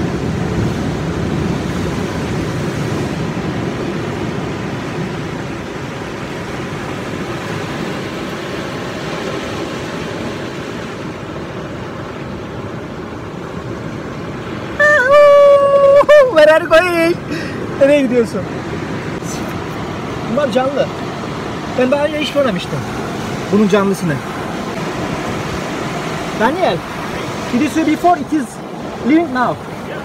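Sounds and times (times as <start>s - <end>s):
sea surf on rocky shore: 0.0s - 30.0s.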